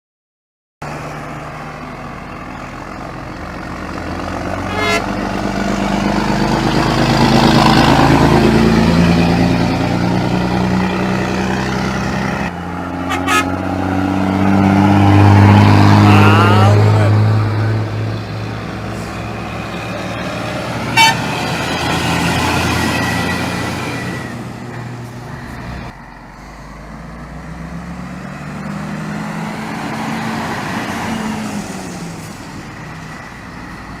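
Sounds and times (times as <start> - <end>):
diesel truck engine accelerating: 0.8 - 34.0.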